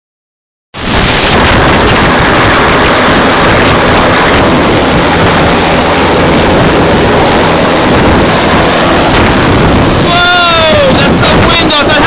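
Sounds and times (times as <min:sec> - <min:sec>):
helicopter engine and rotor: 0:00.8 - 0:12.0
high-pitched whine: 0:00.8 - 0:12.0.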